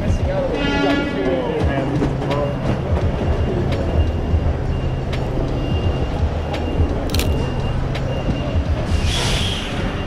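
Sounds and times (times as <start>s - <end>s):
city street traffic rumble: 0.0s - 10.0s.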